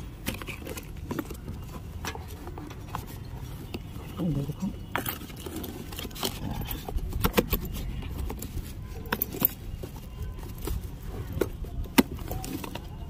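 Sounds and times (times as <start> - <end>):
paper and plastic packaging crinkling: 0.0 - 13.0.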